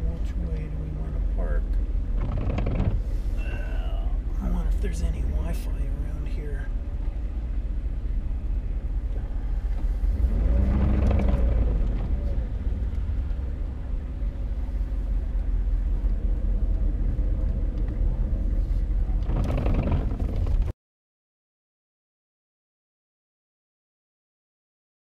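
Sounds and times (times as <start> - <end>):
vehicle engine and road rumble: 0.0 - 20.8.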